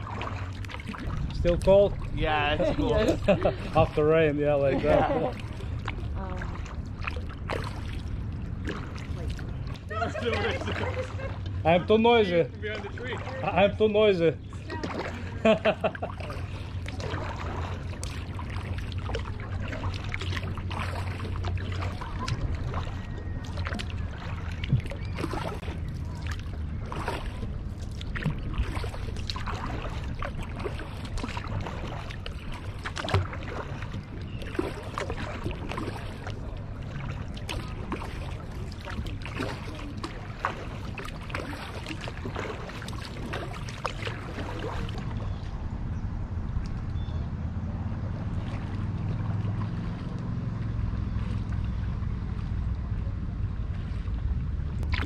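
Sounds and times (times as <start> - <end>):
paddle splashing water: 0.0 - 55.0
steady low rumble: 0.0 - 55.0.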